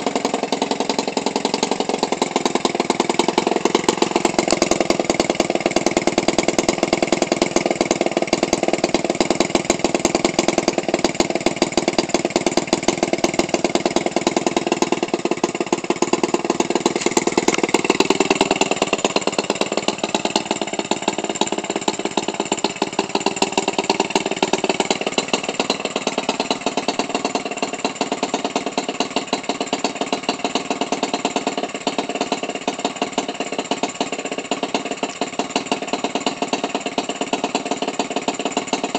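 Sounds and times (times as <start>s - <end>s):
small gasoline engine idling: 0.0s - 38.9s.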